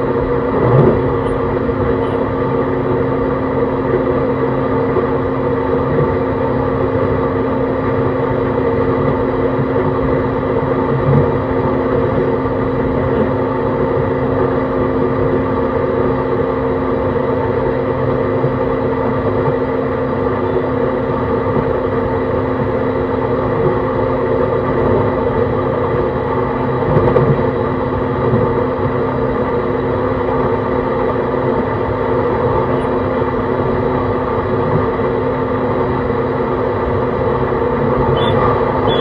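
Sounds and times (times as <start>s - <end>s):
electric train hum: 0.0s - 39.0s
wheel and rail rumble: 0.0s - 39.0s.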